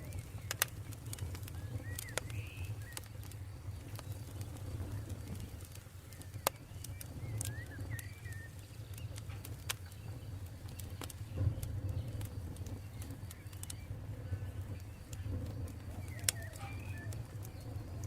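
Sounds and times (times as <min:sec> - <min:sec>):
bird chirping: 0:00.0 - 0:18.0
campfire burning: 0:00.0 - 0:18.0.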